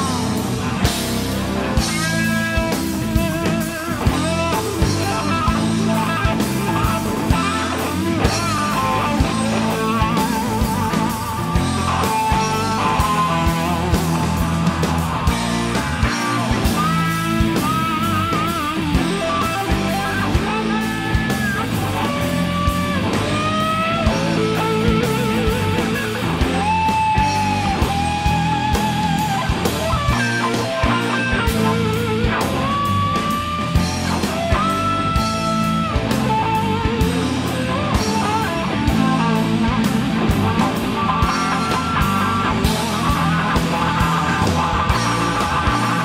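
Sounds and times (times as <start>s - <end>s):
bass: 0.0s - 46.0s
blues-rock band playing: 0.0s - 46.0s
electric guitar solo: 0.0s - 46.0s
steady drum beat: 0.0s - 46.0s.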